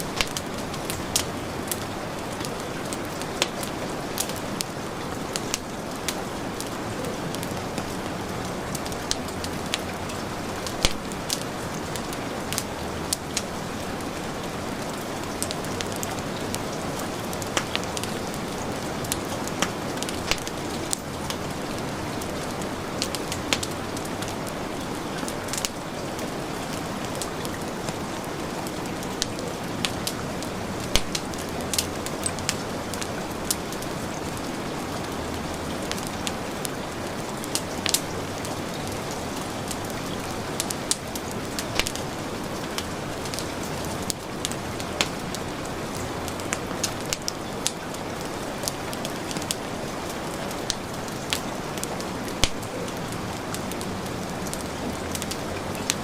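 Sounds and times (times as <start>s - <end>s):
heavy rain hissing: 0.0s - 56.0s
wood fire crackling: 0.0s - 56.0s.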